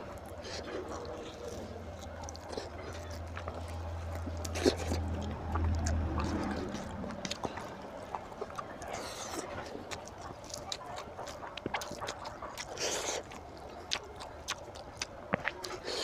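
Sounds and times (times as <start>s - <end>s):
chewing and lip-smacking: 0.0s - 16.0s
low steady hum: 0.0s - 16.0s.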